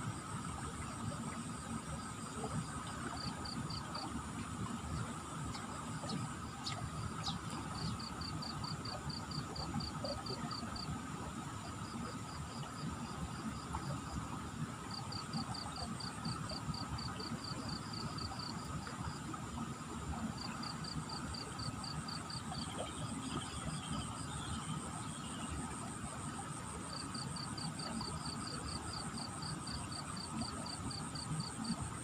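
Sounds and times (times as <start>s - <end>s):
thin insect drone: 0.0s - 32.0s.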